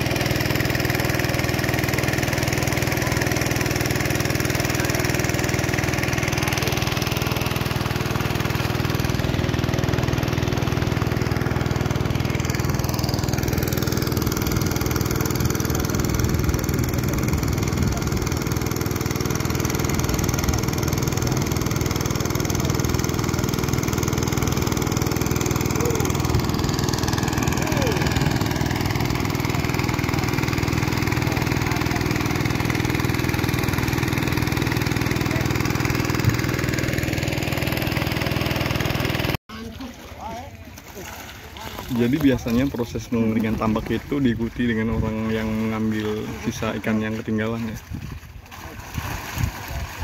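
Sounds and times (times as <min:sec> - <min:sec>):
engine-driven water pump running: 0:00.0 - 0:50.0
water gushing from pipe: 0:00.0 - 0:50.0.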